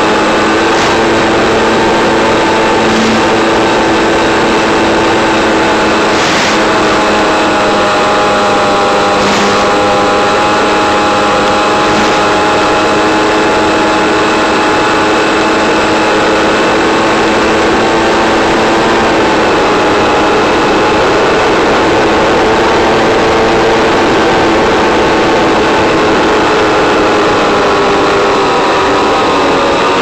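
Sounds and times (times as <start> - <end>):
model plane motor whine: 0.0 - 30.0.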